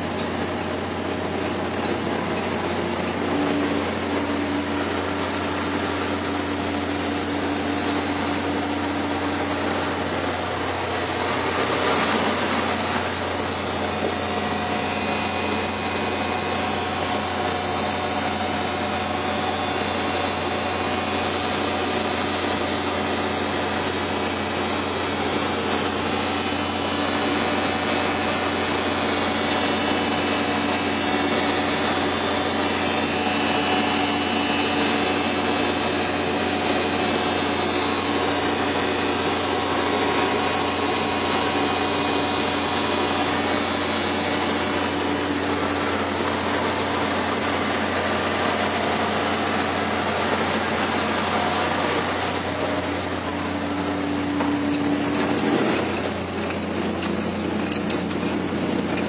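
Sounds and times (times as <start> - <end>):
ship machinery droning: 0.0 - 59.0.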